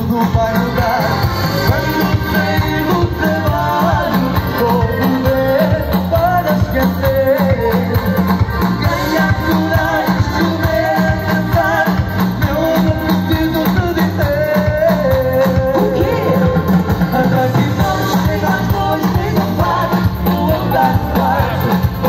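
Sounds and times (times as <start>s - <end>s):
keyboard: 0.0s - 22.0s
live band playing pop music: 0.0s - 22.0s
person singing with vibrato: 0.0s - 22.0s
steady drum beat: 0.0s - 22.0s.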